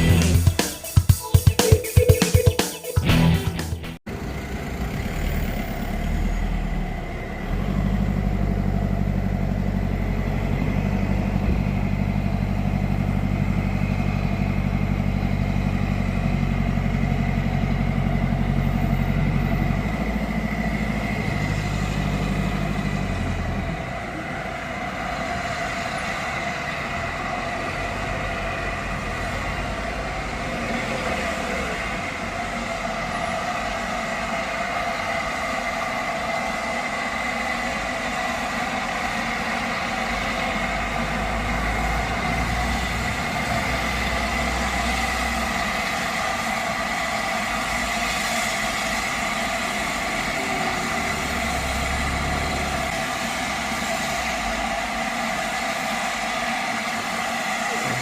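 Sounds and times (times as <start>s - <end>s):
heavy engine humming: 0.0s - 2.5s, 3.1s - 58.0s.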